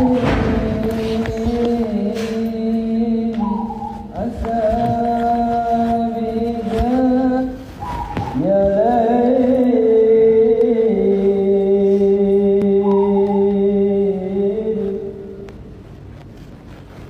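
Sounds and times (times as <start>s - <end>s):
person singing long held notes: 0.0s - 15.6s.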